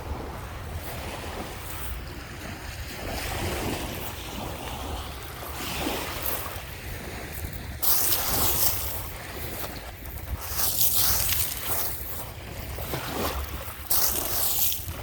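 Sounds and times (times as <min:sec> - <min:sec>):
waves washing onto shore: 0:00.0 - 0:15.0
wind buffeting microphone: 0:00.0 - 0:15.0.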